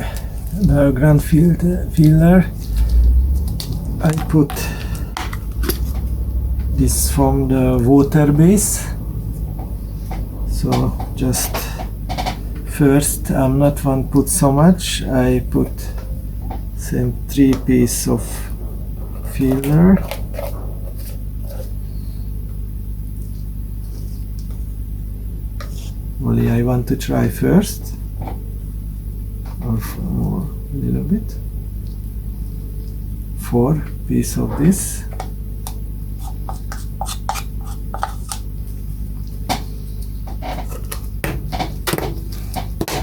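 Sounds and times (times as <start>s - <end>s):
low machine hum: 0.0s - 43.0s.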